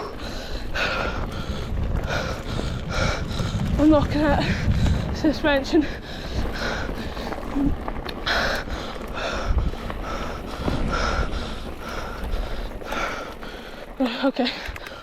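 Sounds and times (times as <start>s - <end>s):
person breathing hard: 0.0s - 3.8s, 5.8s - 15.0s
wind rumble on microphone: 0.0s - 15.0s.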